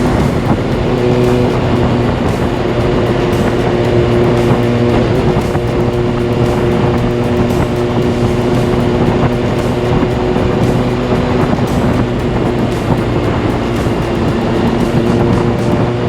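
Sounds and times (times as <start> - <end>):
motorcycle engine at steady revs: 0.0 - 16.0
road noise: 0.0 - 16.0
wind noise: 0.0 - 16.0.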